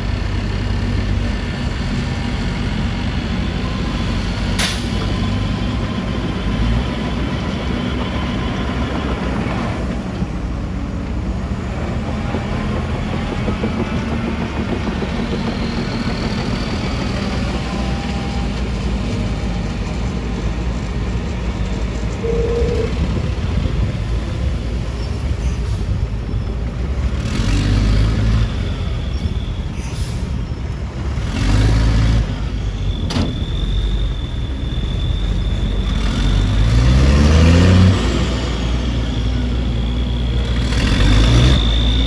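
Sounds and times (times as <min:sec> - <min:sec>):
heavy diesel engines running: 0:00.0 - 0:42.0.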